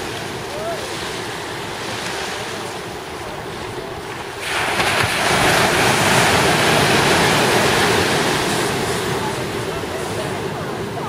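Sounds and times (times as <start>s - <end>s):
small waves washing: 0.0s - 11.0s
wave breaking close by: 0.0s - 11.0s.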